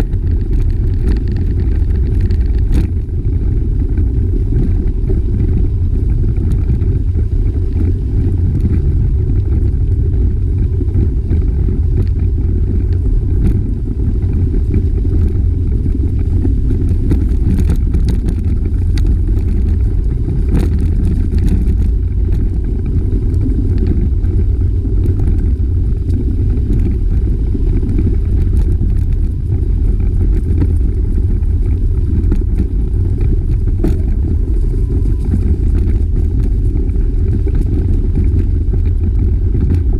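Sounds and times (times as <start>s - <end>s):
bicycle clicks and rattles: 0.0s - 39.9s
wind buffeting microphone: 0.0s - 39.9s.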